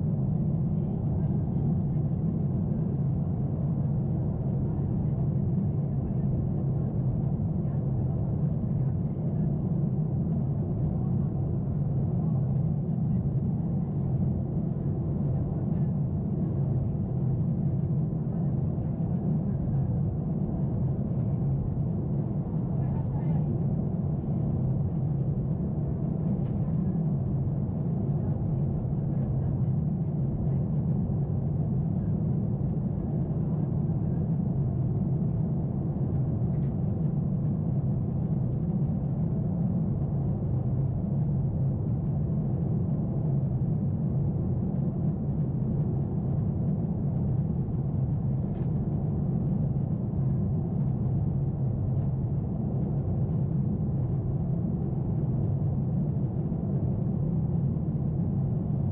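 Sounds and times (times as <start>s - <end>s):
airplane cabin engine rumble: 0.0s - 58.9s.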